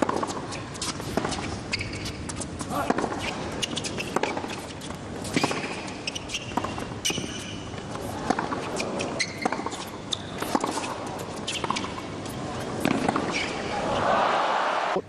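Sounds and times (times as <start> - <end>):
tennis ball racquet hits: 0.0 - 13.7
shoes squeaking on court: 0.0 - 14.1.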